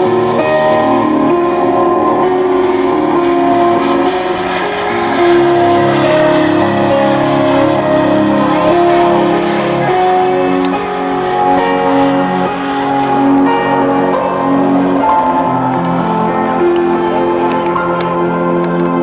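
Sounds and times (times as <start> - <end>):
instrumental music with held chords: 0.0 - 19.0.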